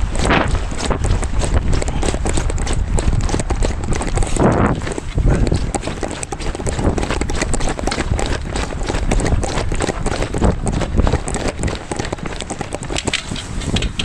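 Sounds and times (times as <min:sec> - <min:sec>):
quick footsteps on concrete: 0:00.0 - 0:14.0.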